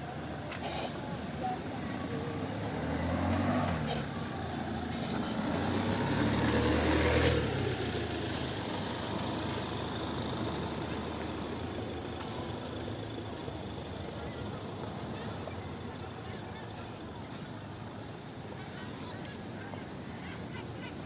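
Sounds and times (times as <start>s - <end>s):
vehicle engine rumbling past: 0.1s - 18.8s.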